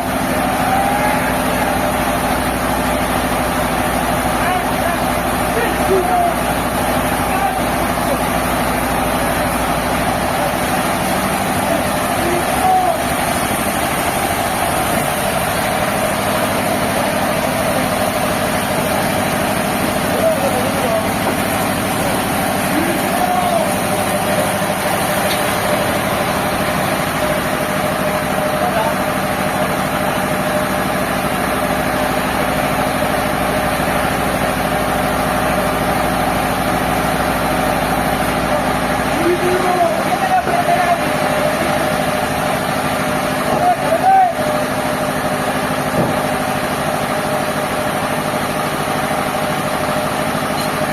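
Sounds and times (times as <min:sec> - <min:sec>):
heavy engine idling: 0:00.0 - 0:50.9
sawmill machinery droning: 0:00.0 - 0:50.9.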